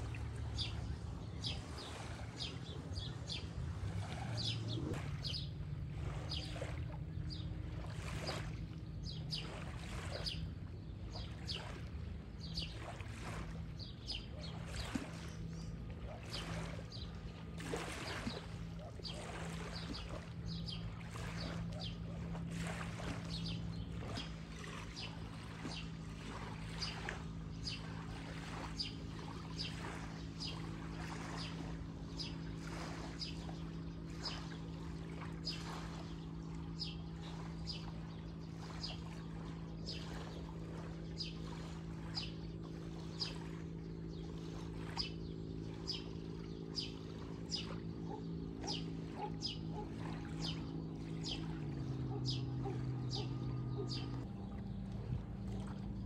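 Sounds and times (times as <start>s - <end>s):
low motor hum: 0.0s - 56.0s.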